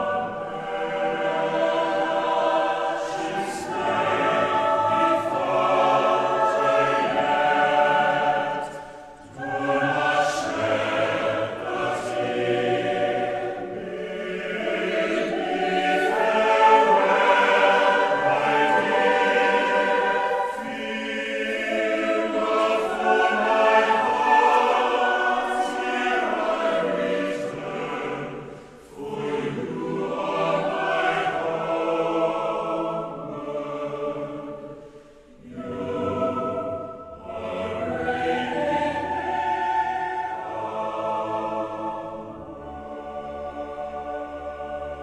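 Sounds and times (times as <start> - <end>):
choir singing: 0.0 - 45.0.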